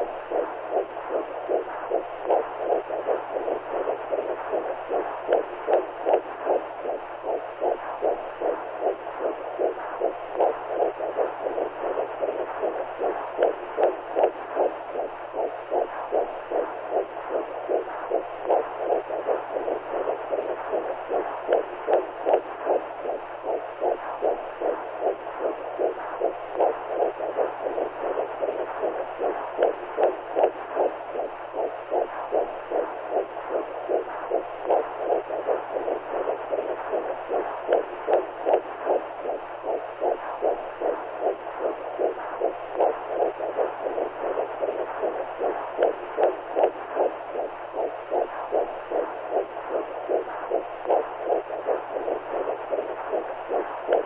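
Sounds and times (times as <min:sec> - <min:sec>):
muffled heartbeat pulse: 0:00.0 - 0:54.0
steady low hum: 0:00.0 - 0:54.0.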